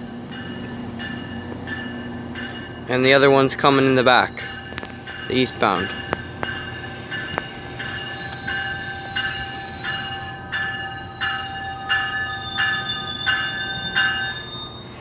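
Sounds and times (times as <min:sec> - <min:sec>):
locomotive bell ringing: 0:00.0 - 0:15.0
train rumble: 0:00.0 - 0:15.0.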